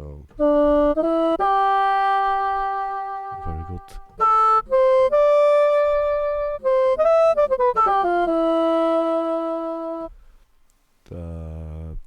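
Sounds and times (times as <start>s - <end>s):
sampled wind instrument notes: 0.0s - 10.4s.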